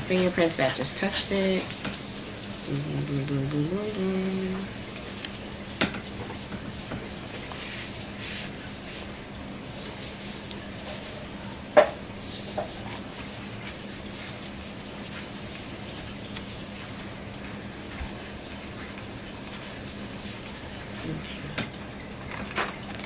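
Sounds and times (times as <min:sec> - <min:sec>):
cloth wiping over metal: 0:00.0 - 0:20.8.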